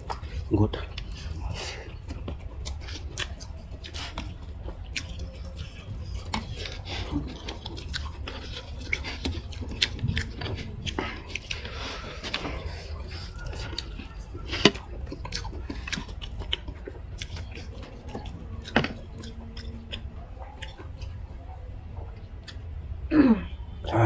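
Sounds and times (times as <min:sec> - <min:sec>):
chewing and biting food: 0:00.0 - 0:22.9.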